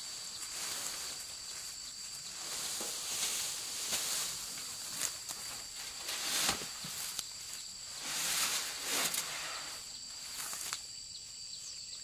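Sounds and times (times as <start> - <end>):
dry rice stalks rustling: 0.0 - 10.8.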